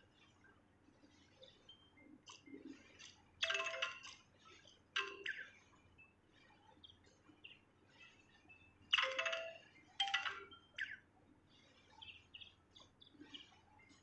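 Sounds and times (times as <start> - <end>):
songbird chirping and singing: 0.0 - 14.0.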